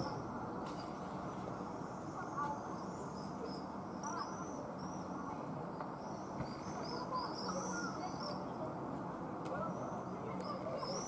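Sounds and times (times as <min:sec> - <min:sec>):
low city hum: 0:00.0 - 0:11.0.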